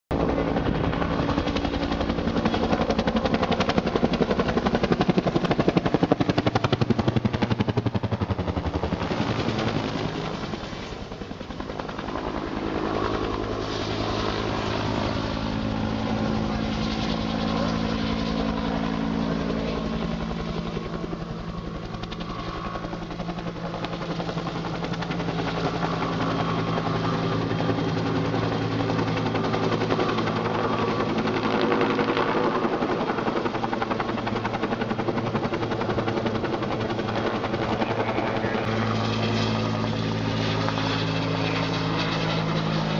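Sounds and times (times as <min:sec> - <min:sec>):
helicopter rotor beating: 0:00.1 - 0:42.9.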